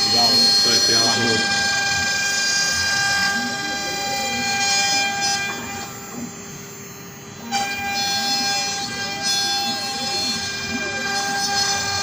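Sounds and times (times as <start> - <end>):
axis motors gliding in pitch: 0.0 - 12.0
wood router high whine: 0.0 - 12.0.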